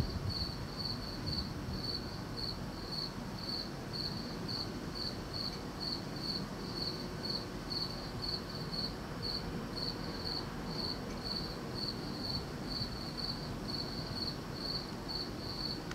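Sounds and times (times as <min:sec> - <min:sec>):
cricket chirping: 0:00.0 - 0:15.9.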